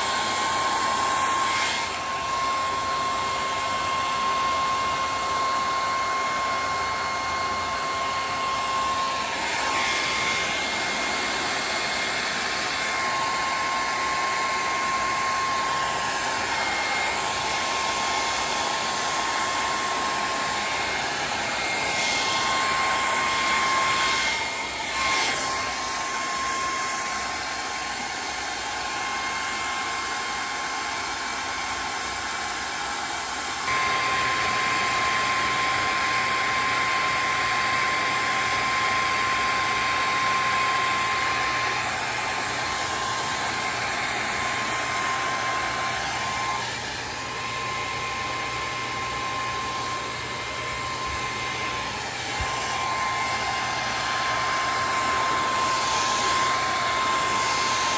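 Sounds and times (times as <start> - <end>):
heat gun blowing: 0.0 - 57.9.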